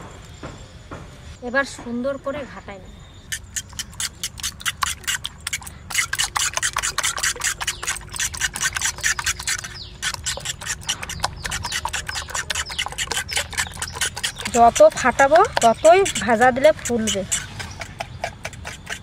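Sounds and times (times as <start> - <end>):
fork beating eggs in bowl: 3.3 - 19.0.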